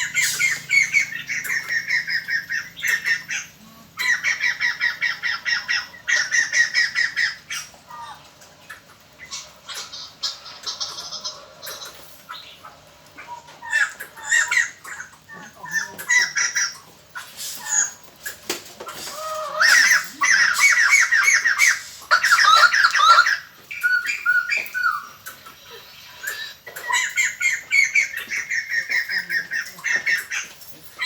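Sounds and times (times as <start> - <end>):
birds squawking and chattering: 0.0 - 31.0.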